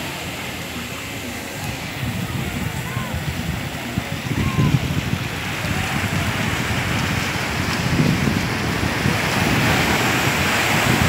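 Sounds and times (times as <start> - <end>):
surf washing on a beach: 0.0 - 11.0
wind buffeting microphone: 1.6 - 11.0.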